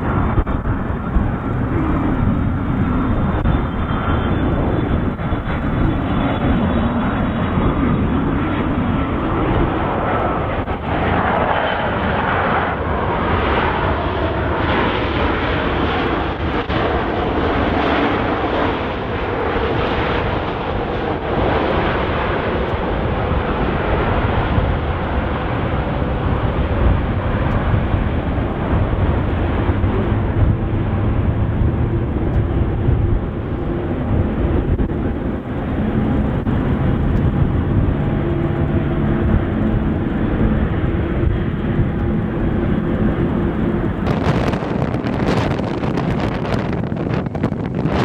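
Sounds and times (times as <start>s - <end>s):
jet engines rushing noise: 0.0s - 48.0s.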